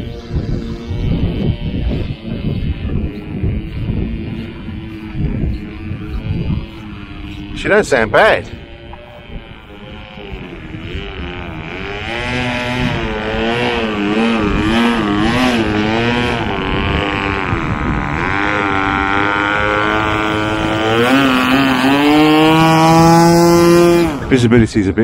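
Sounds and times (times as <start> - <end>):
model aircraft engine running: 0.0 - 24.8.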